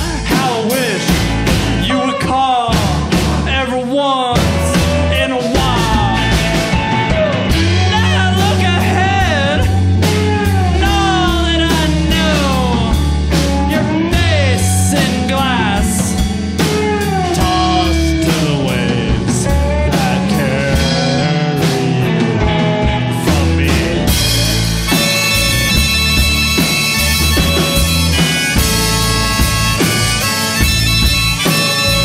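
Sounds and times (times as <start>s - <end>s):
bass and drums: 0.0s - 32.0s
lead guitar bending notes: 0.0s - 32.0s.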